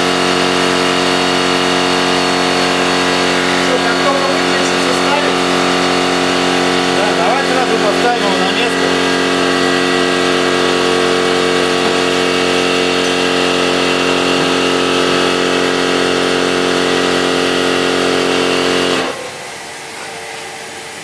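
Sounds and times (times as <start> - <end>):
machine motor humming: 0.0 - 21.0.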